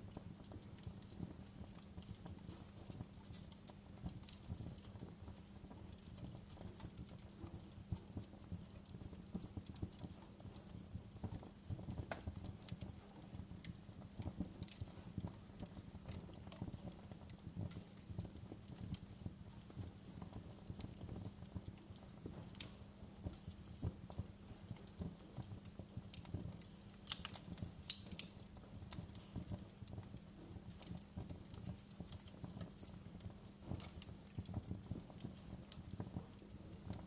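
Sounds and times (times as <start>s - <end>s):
fire crackling: 0.0s - 37.0s
fire low rumble: 0.0s - 37.0s.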